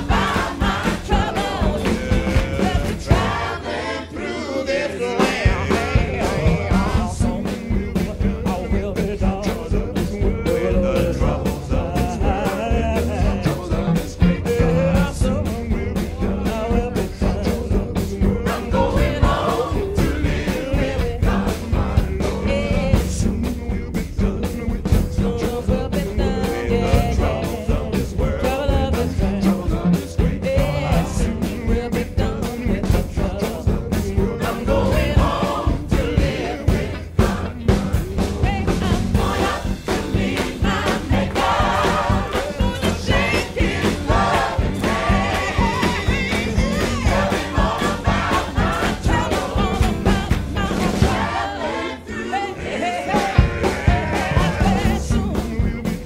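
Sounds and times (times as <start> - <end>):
steady driving beat: 0.0 - 3.9, 5.1 - 51.7, 52.8 - 56.0
woman singing lead vocal: 0.0 - 4.1, 14.0 - 56.0
choir singing: 0.0 - 56.0.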